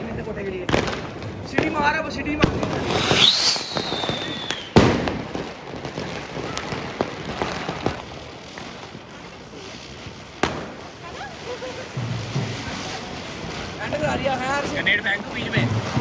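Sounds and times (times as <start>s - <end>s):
firework bang: 0.1s - 16.0s
firecracker pops: 0.6s - 16.0s
whistling firework: 1.0s - 16.0s.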